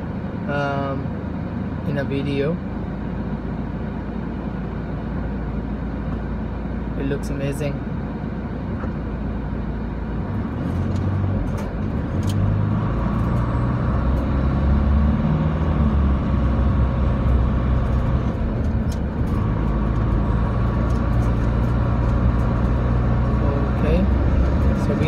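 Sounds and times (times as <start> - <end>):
car engine from inside cabin: 0.0 - 25.0.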